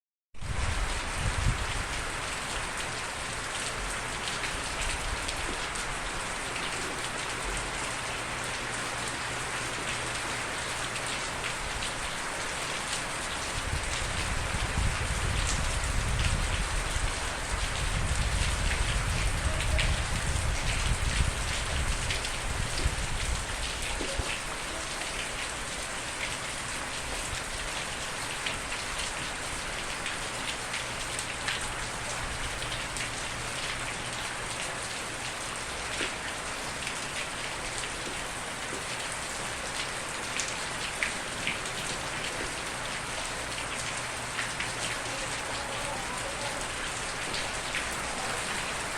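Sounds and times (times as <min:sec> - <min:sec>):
heavy rain falling: 0:00.4 - 0:48.9.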